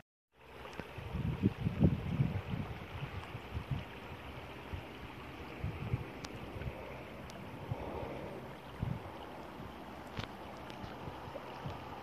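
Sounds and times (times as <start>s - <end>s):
river water flowing: 0.4s - 12.0s
wind buffeting microphone: 0.7s - 12.0s.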